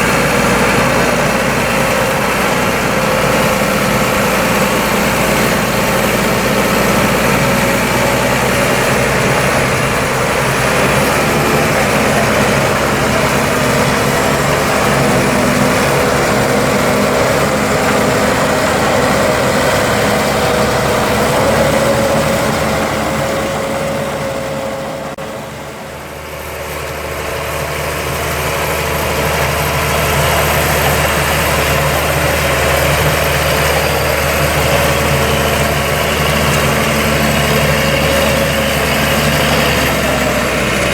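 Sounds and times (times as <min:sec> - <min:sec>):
harvester machinery: 0:00.0 - 0:40.9
tractor engine running: 0:00.0 - 0:40.9.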